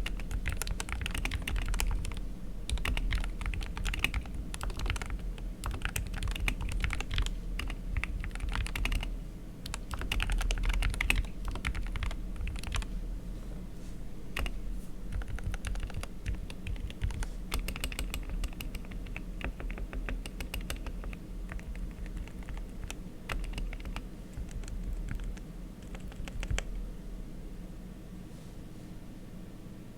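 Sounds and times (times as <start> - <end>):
typing on mechanical keyboard: 0.0 - 12.9, 14.4 - 26.7
steady low hum: 0.0 - 29.9.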